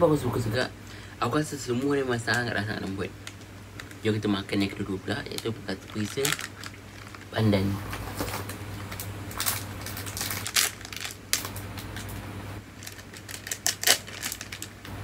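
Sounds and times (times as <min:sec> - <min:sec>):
plastic wrapper crinkling: 0:01.8 - 0:15.0.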